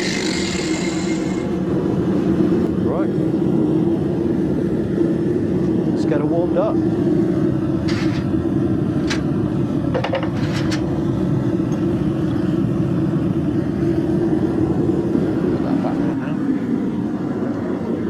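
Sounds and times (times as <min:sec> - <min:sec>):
constant low hum: 0:00.0 - 0:18.0
forge roaring: 0:00.0 - 0:18.0.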